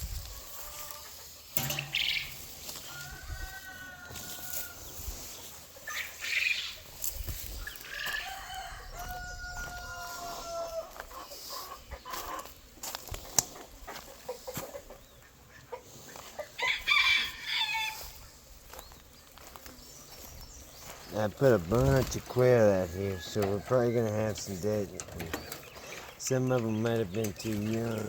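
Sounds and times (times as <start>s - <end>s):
roosters crowing: 0.1s - 12.9s, 15.6s - 28.0s
chicken clucks: 0.2s - 28.0s.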